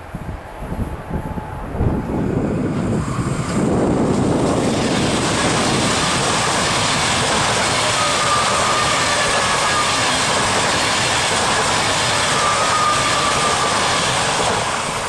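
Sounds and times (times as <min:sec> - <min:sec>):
electric train passing at speed: 0:00.0 - 0:15.0.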